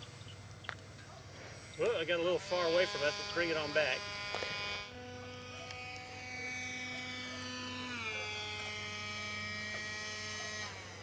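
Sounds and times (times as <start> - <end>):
model airplane propeller whining: 0.0 - 11.0.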